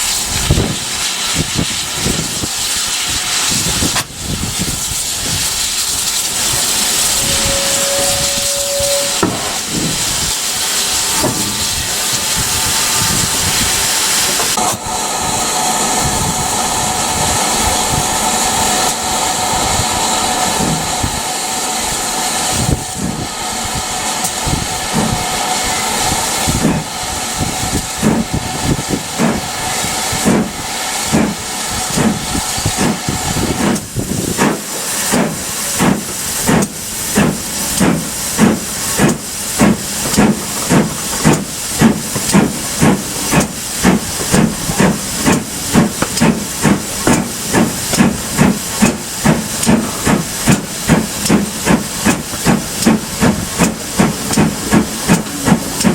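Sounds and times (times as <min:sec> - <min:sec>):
steam hiss with high tone: 0:00.0 - 0:55.9
steam locomotive exhaust beats: 0:00.0 - 0:55.9.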